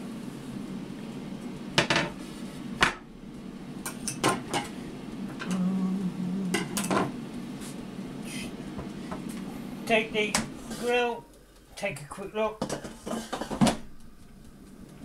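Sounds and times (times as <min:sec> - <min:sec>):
air fryer humming: 0:00.0 - 0:15.0.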